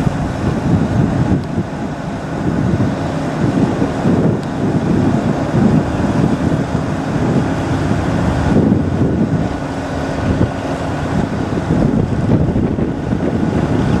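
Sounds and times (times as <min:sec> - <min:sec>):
jet engines rumbling: 0:00.0 - 0:14.0
wind buffeting on microphone: 0:00.0 - 0:14.0.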